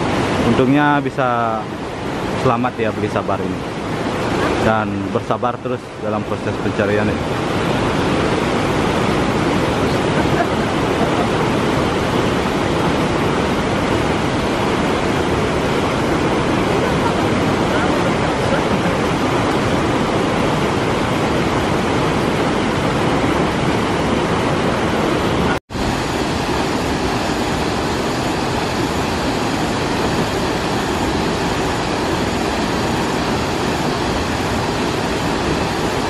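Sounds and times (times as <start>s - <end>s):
water rushing over waterfall: 0.0s - 36.0s.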